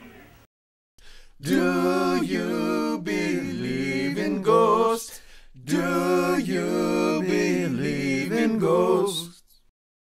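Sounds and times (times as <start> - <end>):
a cappella male singing: 1.4 - 9.7.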